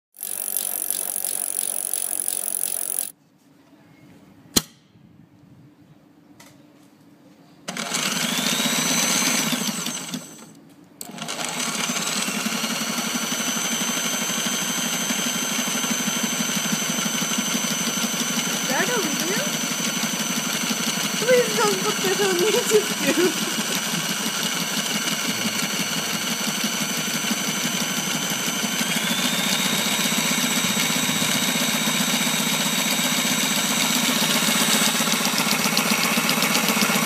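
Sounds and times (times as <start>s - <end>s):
sewing machine stitching: 0.1s - 3.1s, 7.7s - 37.0s.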